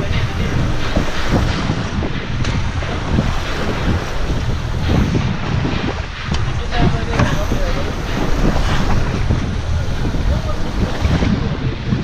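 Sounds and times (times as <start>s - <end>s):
low rumble: 0.0s - 12.0s
waves washing around boat: 0.0s - 12.0s
wind buffeting microphone: 0.0s - 12.0s.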